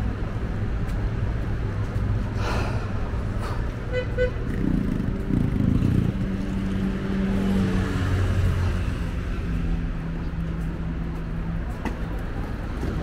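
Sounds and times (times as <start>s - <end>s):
car engines humming: 0.0s - 13.0s
rush of traffic: 0.0s - 13.0s.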